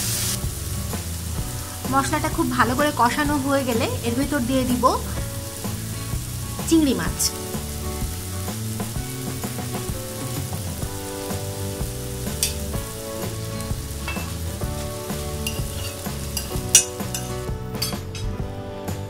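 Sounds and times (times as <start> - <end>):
paste sizzling in oil: 0.0 - 18.4
soft background music: 0.0 - 19.0.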